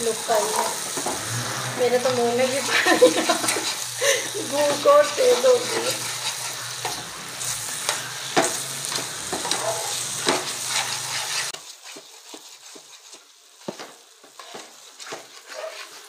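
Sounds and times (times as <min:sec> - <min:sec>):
frying sizzle: 0:00.0 - 0:16.0
metal spoon scraping pan: 0:00.1 - 0:13.2, 0:14.4 - 0:16.0.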